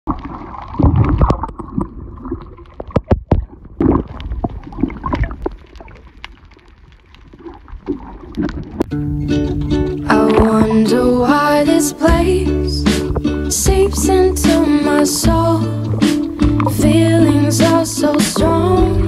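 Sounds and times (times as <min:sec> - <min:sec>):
water sloshing and gurgling: 0:00.1 - 0:19.0.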